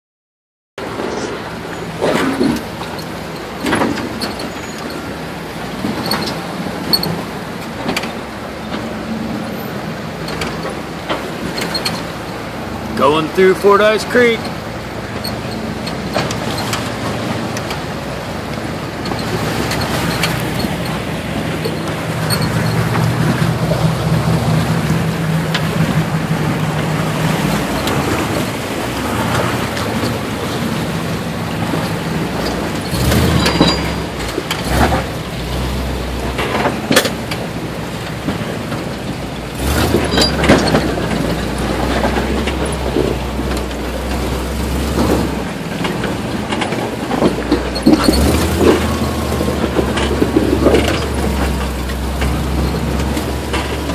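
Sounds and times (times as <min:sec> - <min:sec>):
vehicle engine running: 0:00.8 - 0:53.9
water rushing: 0:00.8 - 0:53.9.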